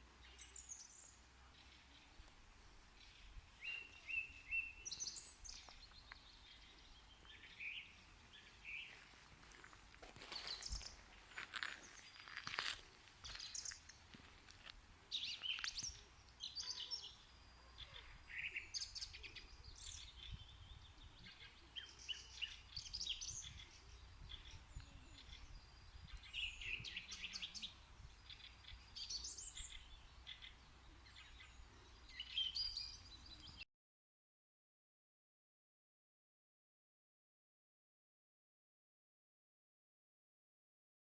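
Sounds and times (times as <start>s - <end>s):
birds chirping and trilling: 0.0s - 33.6s.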